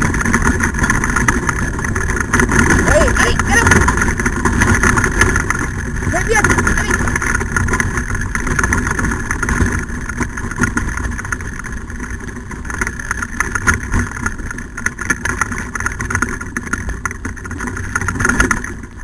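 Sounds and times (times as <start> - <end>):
dog kart rattling over dirt: 0.0 - 19.0.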